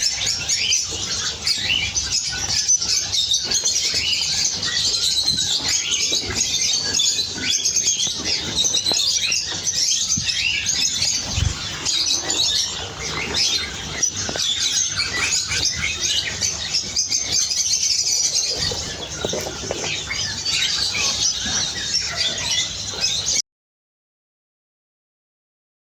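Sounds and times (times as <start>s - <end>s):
canaries chirping and twittering: 0.0s - 23.4s.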